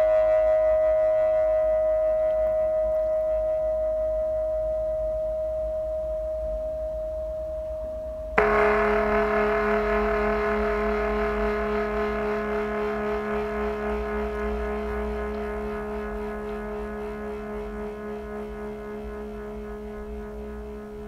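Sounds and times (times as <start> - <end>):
high ringing tone: 0.0 - 21.0
low ringing tone with overtones: 0.0 - 21.0.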